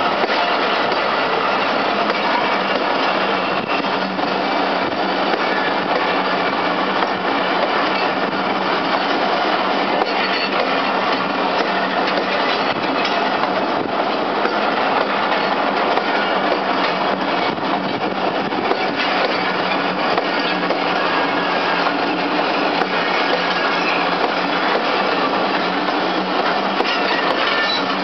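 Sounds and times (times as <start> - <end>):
train wheels rushing on rails: 0.0 - 28.0.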